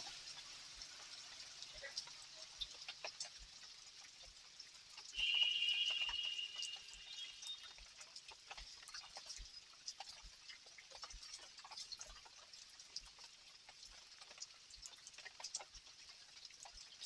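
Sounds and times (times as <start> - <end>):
rain drops dripping and ticking: 0.0 - 17.0.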